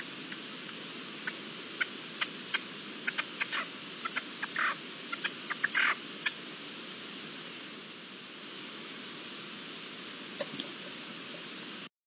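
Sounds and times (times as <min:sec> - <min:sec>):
steady outdoor hiss: 0:00.0 - 0:11.9.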